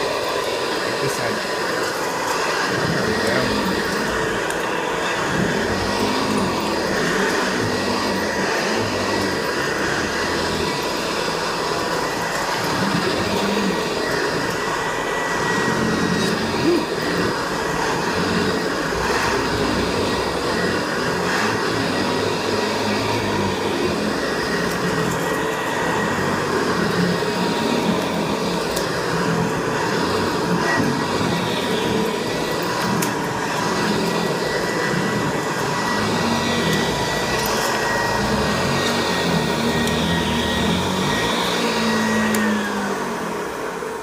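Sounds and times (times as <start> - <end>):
vacuum cleaner running: 0.0 - 44.0.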